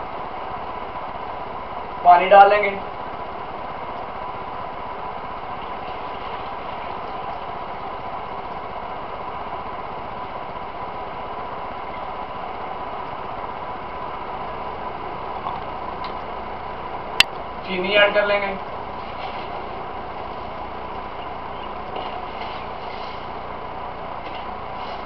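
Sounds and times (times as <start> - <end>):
constant high whine: 0.0 - 25.0
machine hum: 0.0 - 25.0.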